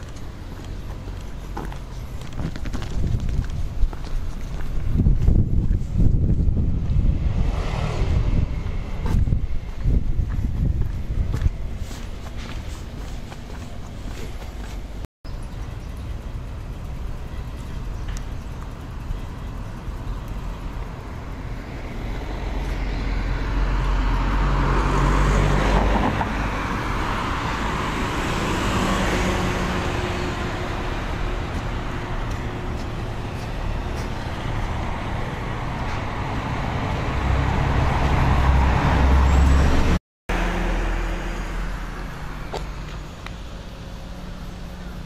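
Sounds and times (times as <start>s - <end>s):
cars passing along a street: 0.0s - 45.0s.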